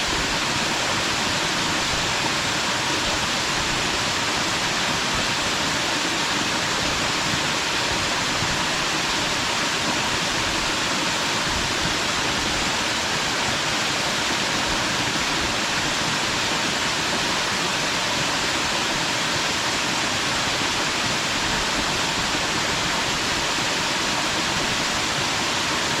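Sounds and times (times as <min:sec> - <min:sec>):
waterfall pouring onto rocks: 0:00.0 - 0:26.0.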